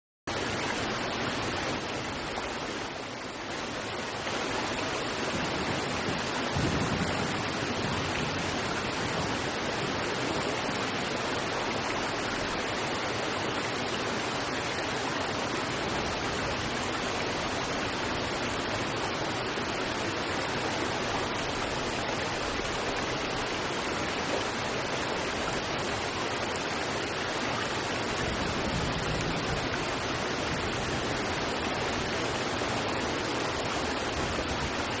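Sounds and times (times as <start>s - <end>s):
river water rushing over rocks: 0.3s - 35.0s.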